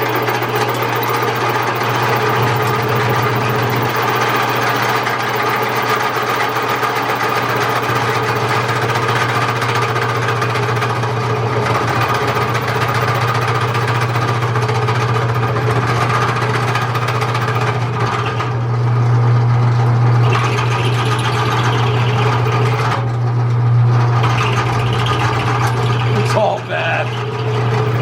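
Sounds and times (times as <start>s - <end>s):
engine idling: 0.0s - 18.6s, 24.0s - 28.0s.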